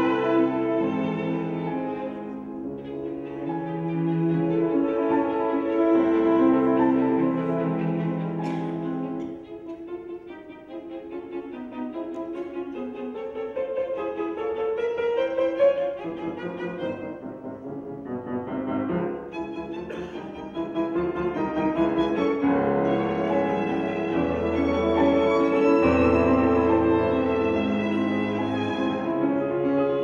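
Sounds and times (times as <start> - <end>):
instrumental music: 0.0 - 30.0.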